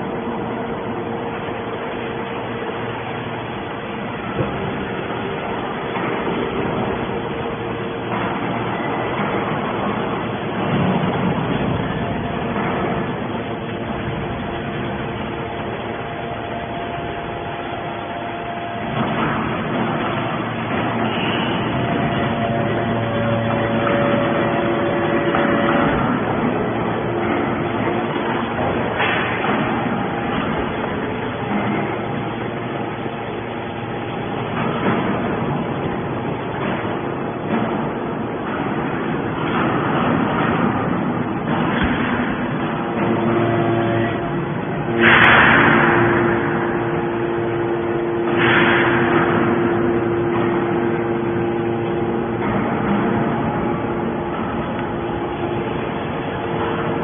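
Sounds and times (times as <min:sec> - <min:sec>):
can baler machine running: 0:00.0 - 0:57.0
pump motor hum: 0:00.0 - 0:57.0
rush of noise: 0:00.0 - 0:57.0.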